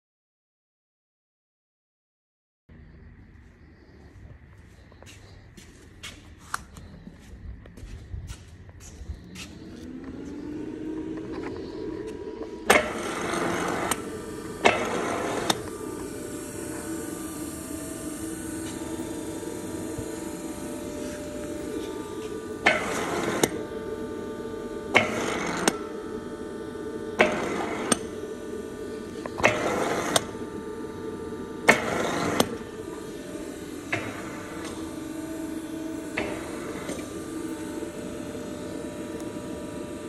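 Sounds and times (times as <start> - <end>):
machine motor hum: 2.7 - 40.0.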